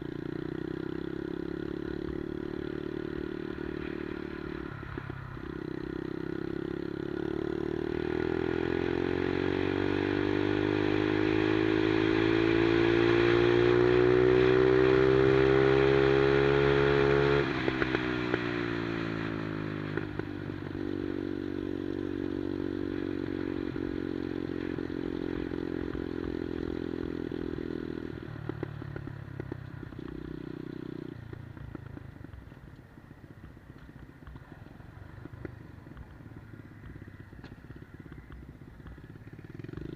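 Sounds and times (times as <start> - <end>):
minibike engine revving: 0.0 - 31.2, 35.2 - 39.9.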